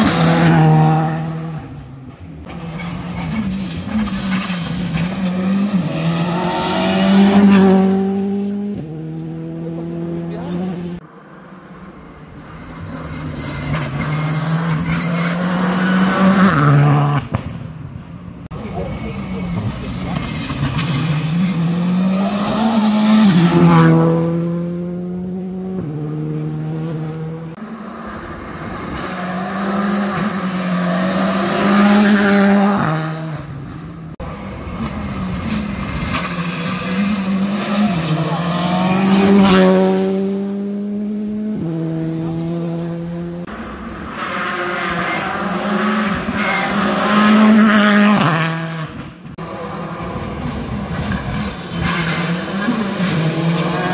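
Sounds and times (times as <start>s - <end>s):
rally cars revving past: 0.0s - 11.8s, 12.5s - 17.6s, 19.2s - 53.9s.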